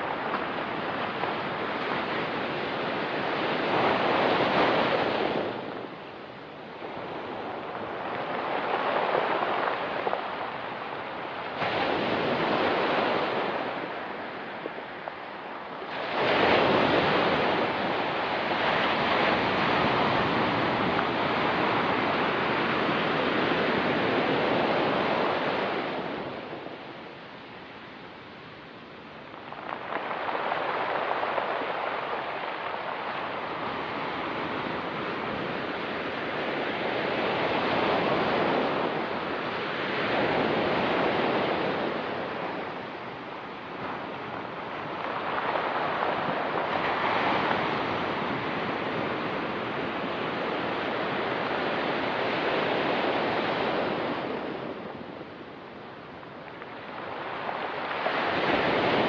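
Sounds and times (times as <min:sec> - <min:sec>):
surf breaking on rocky beach: 0:00.0 - 0:27.2, 0:28.8 - 0:59.0.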